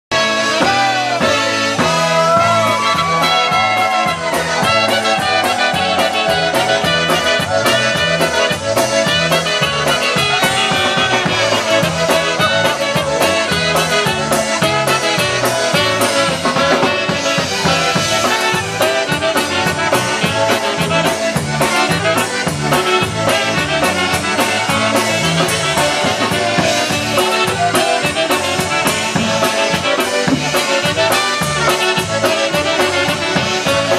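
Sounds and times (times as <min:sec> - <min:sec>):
polka band playing: 0:00.1 - 0:33.9.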